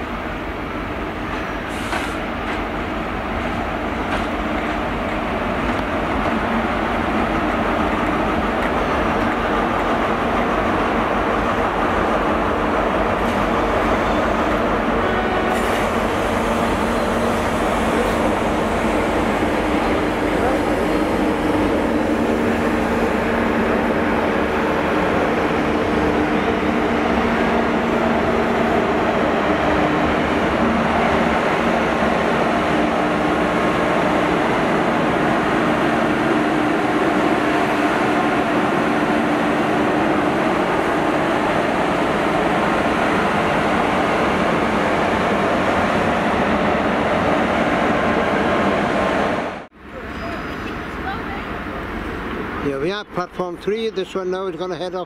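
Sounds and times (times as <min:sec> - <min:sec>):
diesel train engine drone: 0:00.0 - 0:55.0
rail noise: 0:00.0 - 0:55.0.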